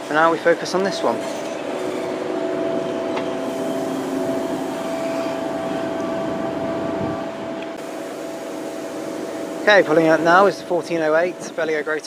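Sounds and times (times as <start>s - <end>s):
train mechanical hum and whine: 0.0s - 12.0s.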